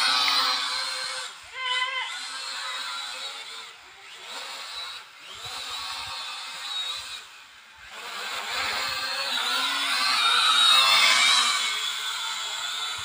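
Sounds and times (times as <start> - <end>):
toy drone buzzing whine: 0.0 - 13.0.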